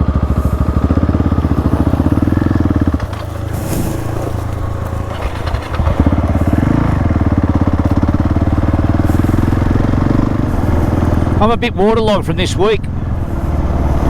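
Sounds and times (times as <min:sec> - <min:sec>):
dirt bike engine chugging: 0:00.0 - 0:14.0.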